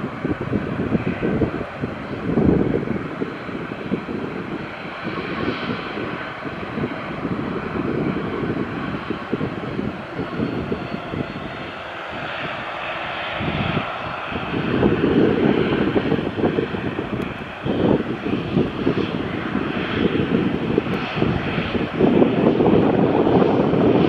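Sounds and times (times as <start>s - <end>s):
airliner engines rushing: 0.0s - 24.0s
wind buffeting microphone: 0.0s - 24.0s.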